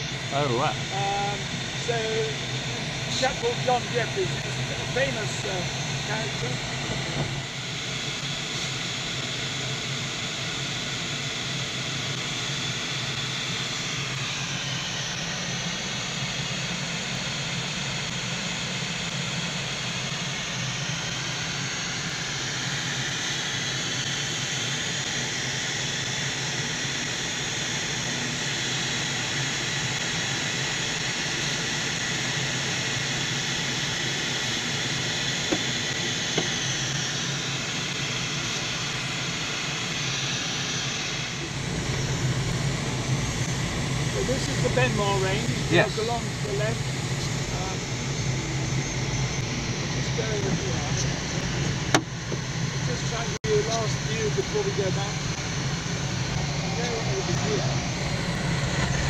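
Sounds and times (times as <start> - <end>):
low hum: 0.0 - 26.9, 32.3 - 59.0.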